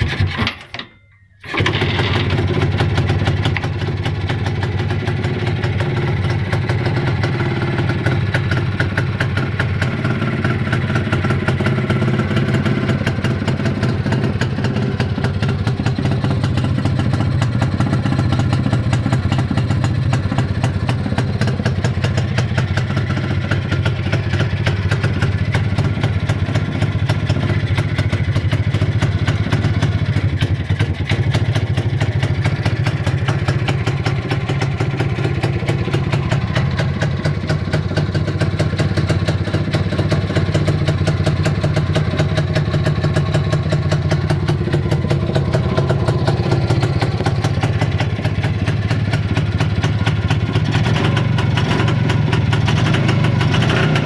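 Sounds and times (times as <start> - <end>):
two-stroke motorcycle engine idling: 1.4 - 54.0.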